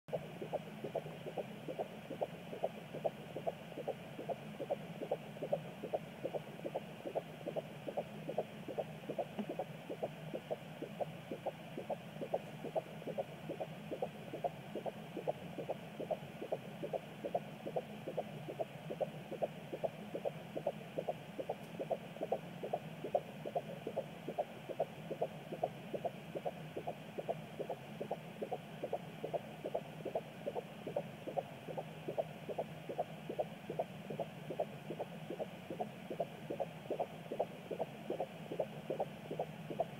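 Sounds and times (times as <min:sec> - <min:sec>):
fetal heartbeat on doppler: 0:00.1 - 0:39.9
steady hum: 0:00.1 - 0:39.9.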